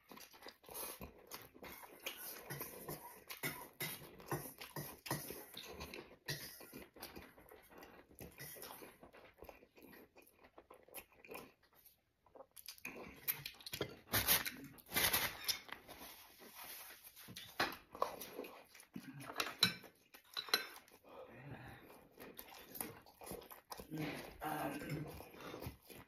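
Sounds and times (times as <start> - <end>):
person chewing with wet smacks: 0.0 - 14.7, 17.1 - 21.1, 21.7 - 26.0.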